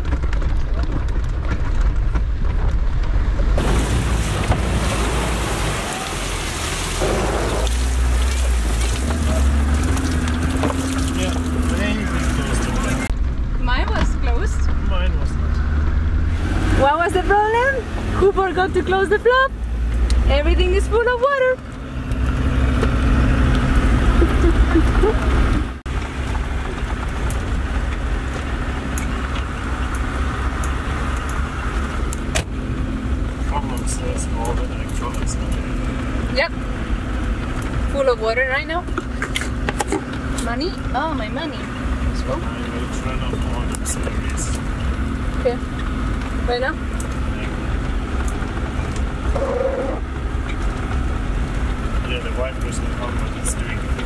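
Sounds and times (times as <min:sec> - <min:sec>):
road noise: 0:00.0 - 0:54.0
vehicle engine running: 0:00.0 - 0:54.0
water splashing and rushing: 0:00.0 - 0:54.0.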